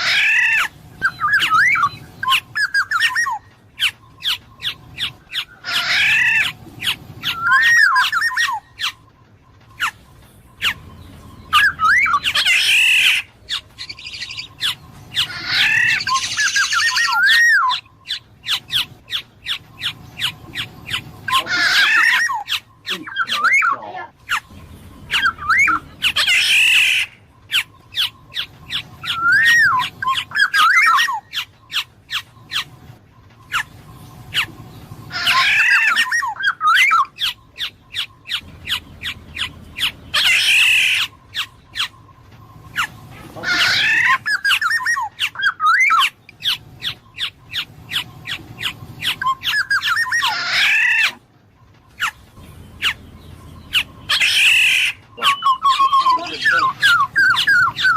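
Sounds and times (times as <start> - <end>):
bird squawking: 0.0 - 57.9
bird whistling: 0.0 - 57.9.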